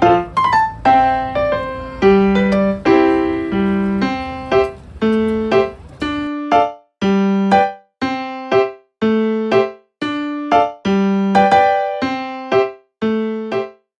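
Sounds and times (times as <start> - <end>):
light piano-like keyboard tune: 0.0 - 13.9.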